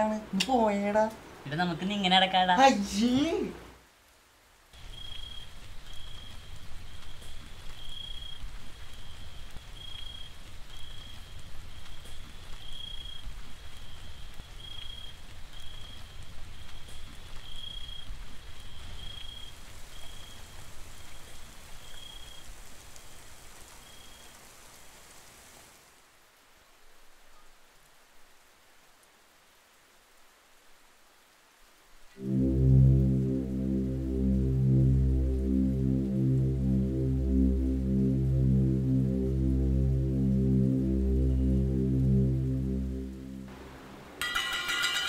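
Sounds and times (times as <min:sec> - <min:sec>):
steady rain: 0:00.0 - 0:45.0.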